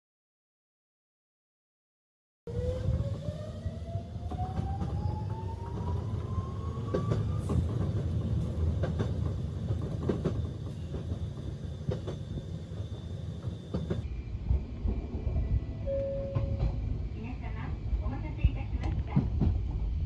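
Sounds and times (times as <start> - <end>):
train rumble: 2.6 - 20.0.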